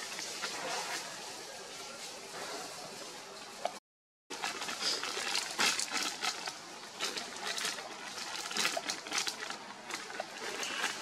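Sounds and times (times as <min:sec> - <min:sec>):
dry leaves crackling: 0:00.0 - 0:03.7, 0:04.3 - 0:11.0.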